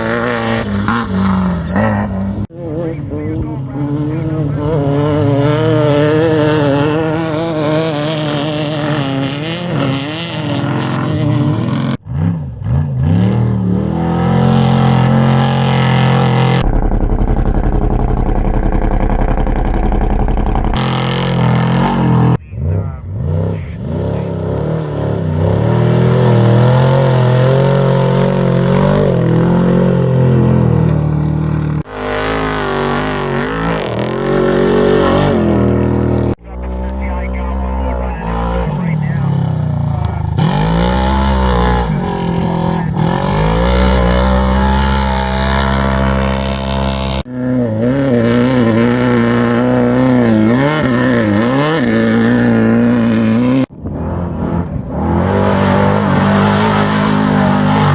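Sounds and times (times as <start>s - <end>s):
race engines revving: 0.0s - 57.9s.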